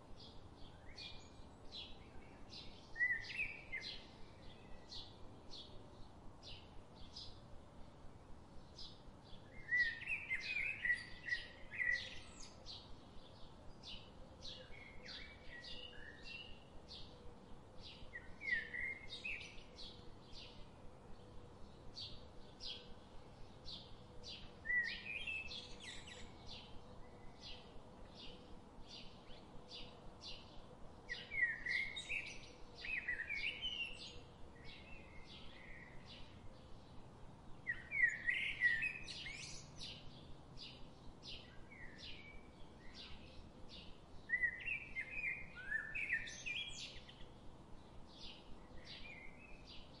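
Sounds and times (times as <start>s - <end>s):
warbled birdsong: 0.0s - 50.0s.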